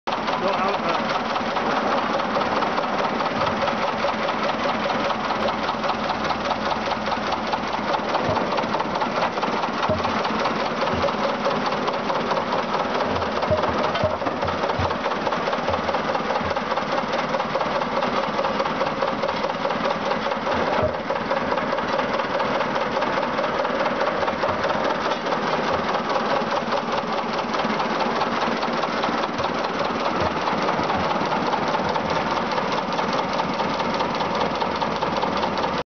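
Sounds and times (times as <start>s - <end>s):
road roller engine running: 0.1s - 35.8s.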